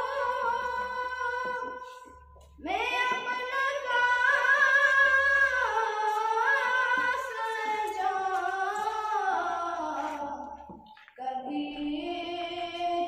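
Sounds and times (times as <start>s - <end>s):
boy singing into microphone: 0.0s - 13.0s.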